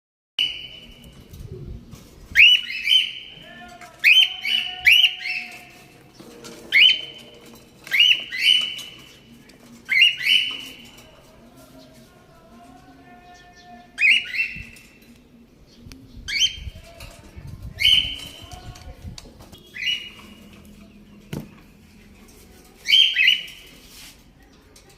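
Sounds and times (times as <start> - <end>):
small birds chirping: 0.4 - 24.9.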